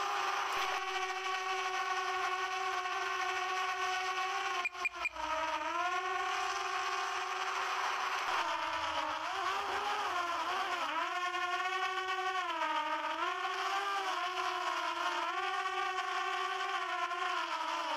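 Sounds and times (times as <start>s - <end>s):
drone propellers whining: 0.0s - 17.9s.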